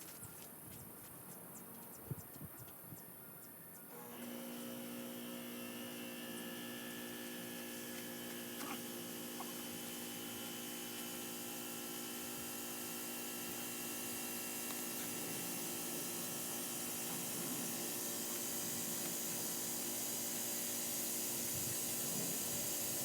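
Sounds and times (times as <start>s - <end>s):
small electric motor humming: 3.9s - 23.0s.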